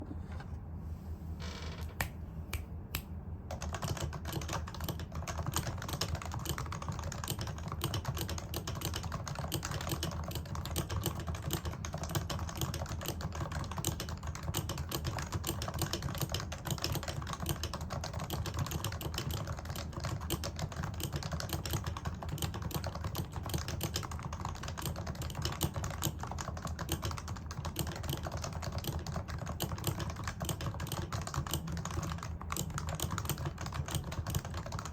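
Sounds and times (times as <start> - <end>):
typing on keyboard: 3.5 - 34.9.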